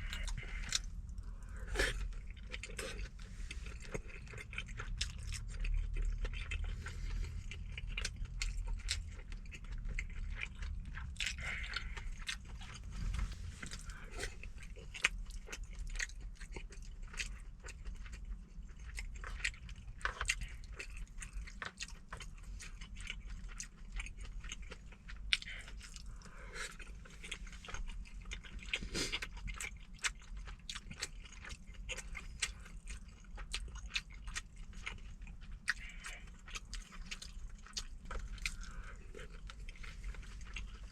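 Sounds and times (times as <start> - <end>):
low steady hum: 0.0 - 40.9
person chewing food: 0.0 - 40.9.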